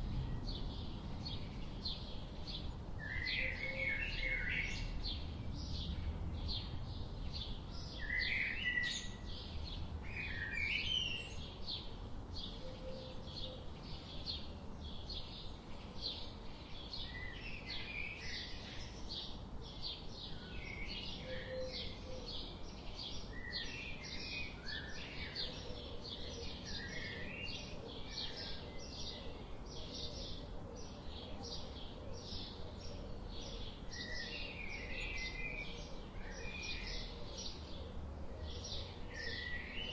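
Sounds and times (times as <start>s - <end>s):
faint low background noise: 0.0s - 39.9s.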